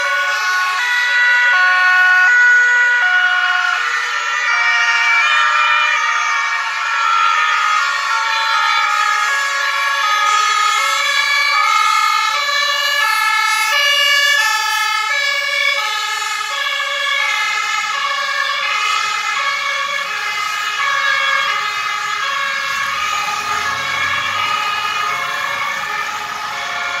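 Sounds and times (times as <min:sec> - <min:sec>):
two-tone emergency sirens: 0:00.0 - 0:27.0.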